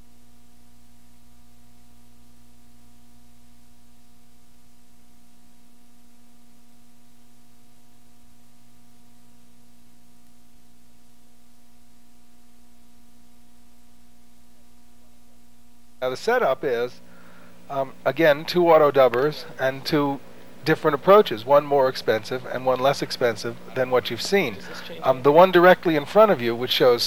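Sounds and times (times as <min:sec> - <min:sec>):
electrical hum with hiss: 0:00.0 - 0:27.0.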